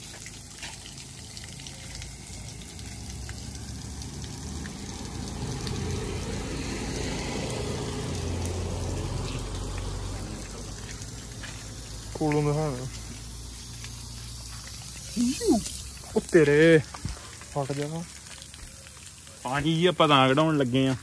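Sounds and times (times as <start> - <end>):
water spraying from tyre valve: 0.0 - 21.0.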